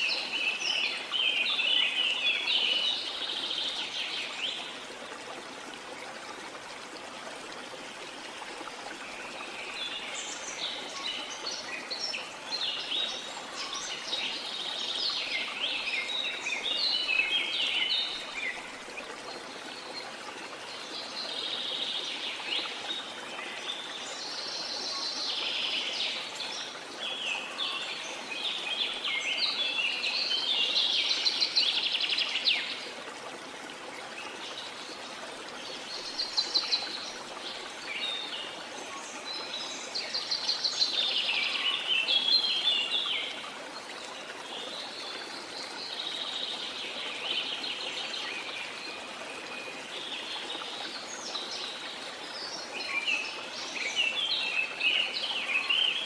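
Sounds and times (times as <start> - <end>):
songbirds chirping: 0.0 - 56.0
stream flowing: 0.0 - 56.0.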